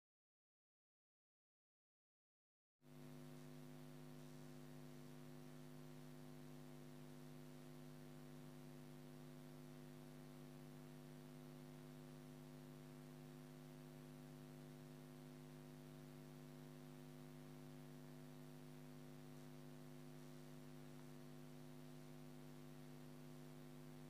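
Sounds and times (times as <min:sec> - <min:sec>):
faint electrical hum: 0:02.9 - 0:24.0.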